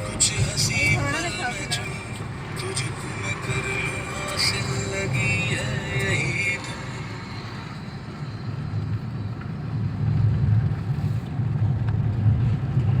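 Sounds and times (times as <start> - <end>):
vehicle rumbling along road: 0.0 - 13.0.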